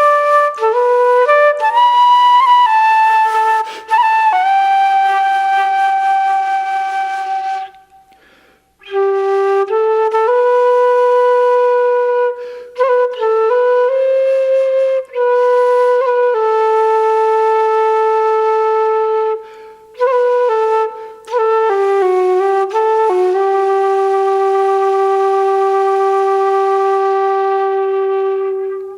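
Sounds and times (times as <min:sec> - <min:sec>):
solo flute melody: 0:00.0 - 0:28.9.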